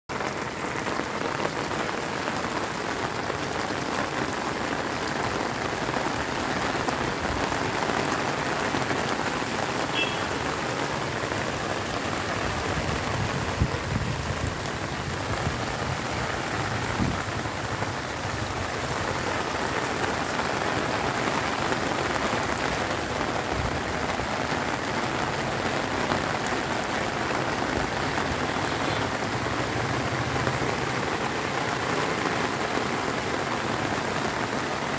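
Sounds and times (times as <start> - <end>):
steady rain on rooftops and trees: 0.1 - 34.9.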